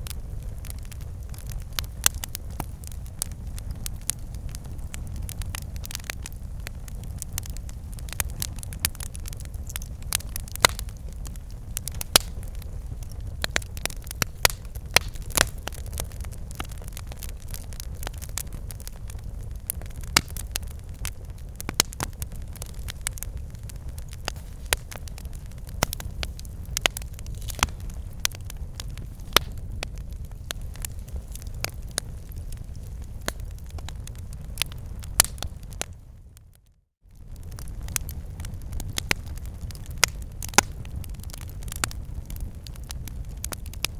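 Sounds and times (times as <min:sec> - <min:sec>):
campfire flames rumbling and crackling: 0:00.0 - 0:43.9.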